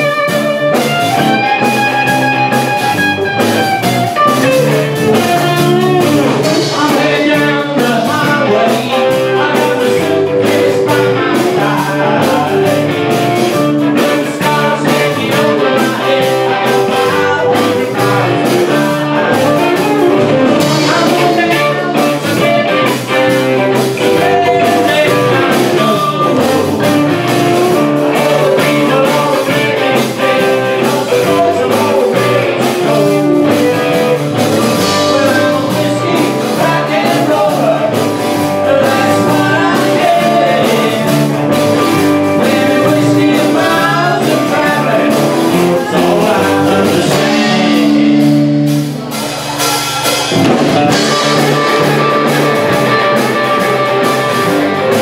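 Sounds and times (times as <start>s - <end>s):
live blues-rock band playing: 0.0s - 55.0s
overdriven electric guitar: 0.0s - 55.0s
person singing: 0.0s - 55.0s.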